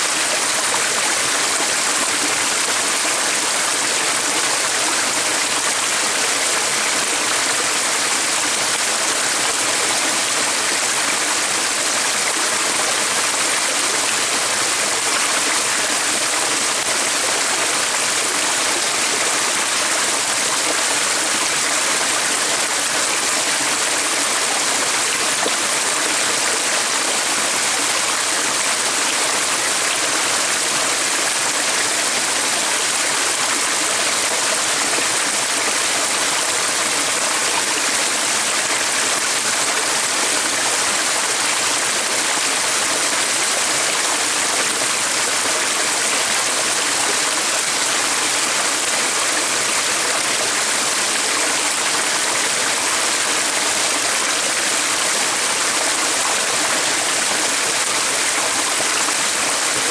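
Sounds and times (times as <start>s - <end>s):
rush of flowing water: 0.0s - 59.9s.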